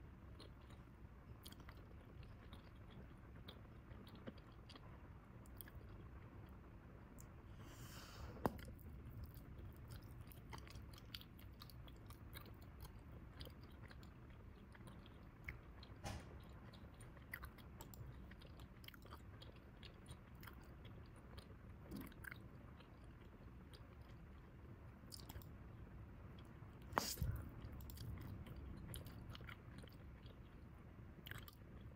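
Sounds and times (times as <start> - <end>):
gum chewing wet smacks: 0.3 - 6.6, 8.4 - 24.5, 25.1 - 25.5, 26.4 - 31.9.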